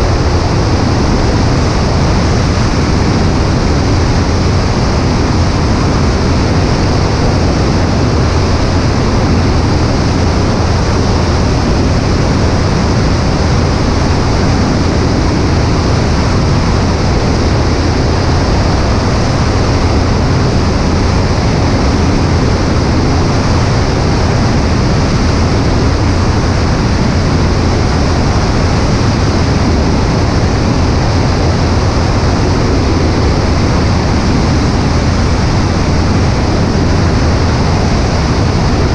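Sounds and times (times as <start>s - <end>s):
airplane engine drone: 0.0s - 38.9s
wind rush: 0.0s - 38.9s.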